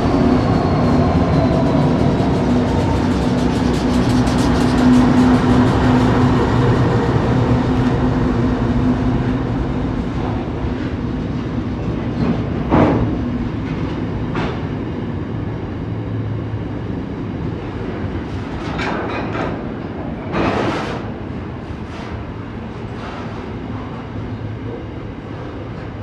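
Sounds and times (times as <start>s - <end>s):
diesel locomotive engine hum: 0.0s - 26.0s.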